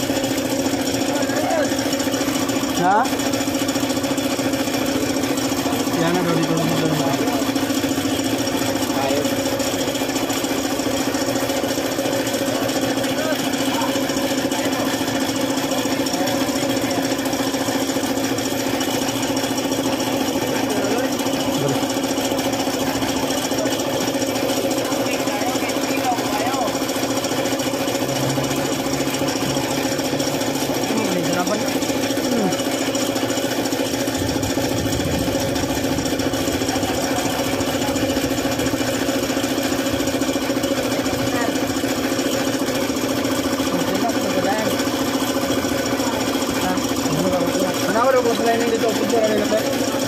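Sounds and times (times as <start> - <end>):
engine running with fast rattle: 0.0 - 50.0.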